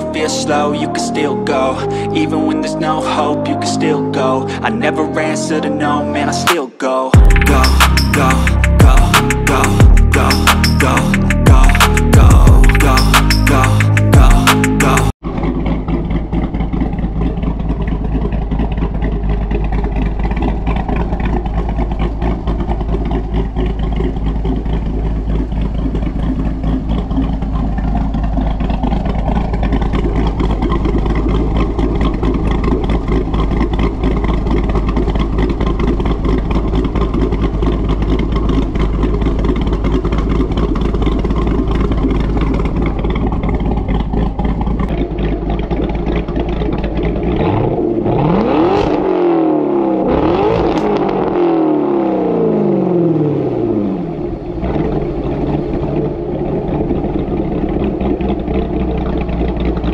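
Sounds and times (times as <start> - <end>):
car engine idling: 7.2 - 59.9.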